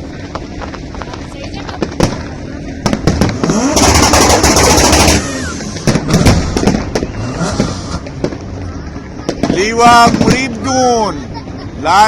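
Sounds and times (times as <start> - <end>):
fireworks bangs: 0.0 - 11.6
fireworks crackling salvo: 0.0 - 12.0.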